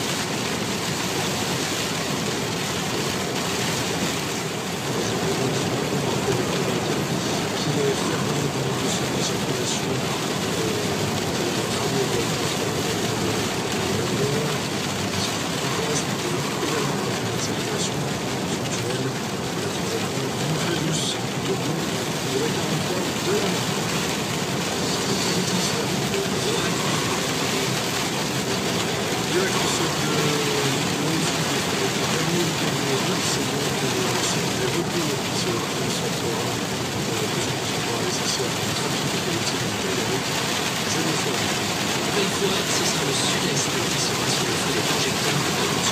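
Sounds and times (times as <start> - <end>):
rain on car: 0.0 - 45.9
tyres on wet road: 0.0 - 45.9.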